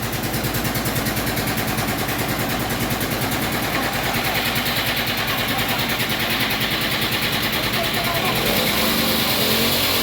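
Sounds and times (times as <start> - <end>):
sawmill engine running: 0.0 - 10.0.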